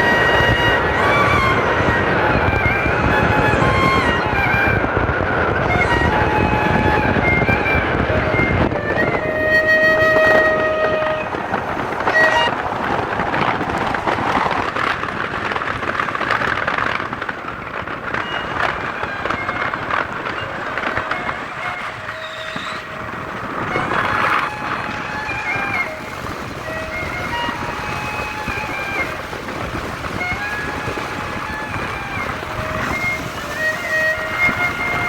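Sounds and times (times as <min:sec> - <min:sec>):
train horn: 0:00.0 - 0:14.2, 0:18.1 - 0:35.0
moving train noise: 0:00.0 - 0:35.0.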